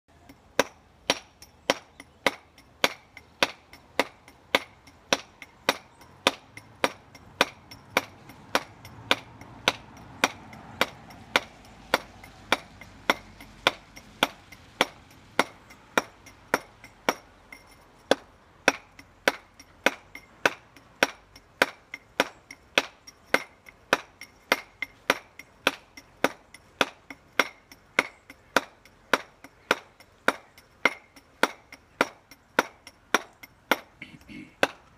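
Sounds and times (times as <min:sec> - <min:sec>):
mallet striking chisel on stone: 0:00.1 - 0:34.9.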